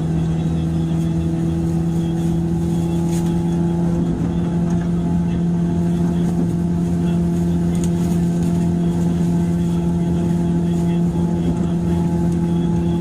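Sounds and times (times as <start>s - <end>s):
electric train motor hum: 0.0s - 13.0s.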